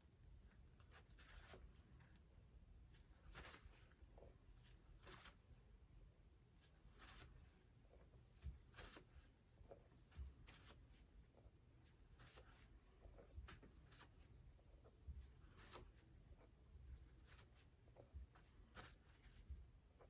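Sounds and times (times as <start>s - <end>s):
faint rustles and scratches: 0.0s - 20.0s.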